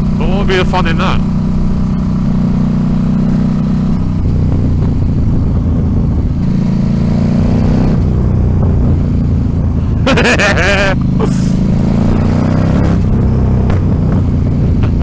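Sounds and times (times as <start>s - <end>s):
motorcycle engine cruising: 0.0s - 15.0s
road and wind noise: 0.0s - 15.0s.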